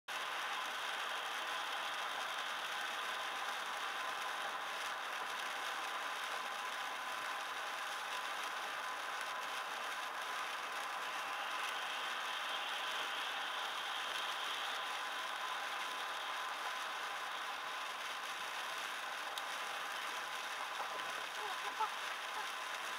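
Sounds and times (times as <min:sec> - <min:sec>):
faint steady whine: 0:00.1 - 0:22.9
road and tyre noise: 0:00.1 - 0:22.9.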